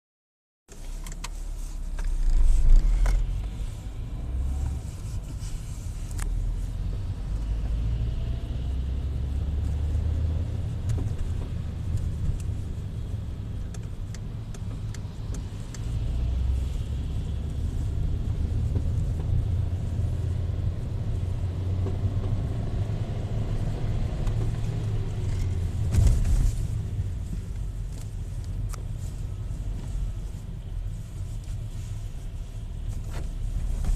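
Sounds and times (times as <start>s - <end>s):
car engine and road rumble: 0.7s - 33.9s.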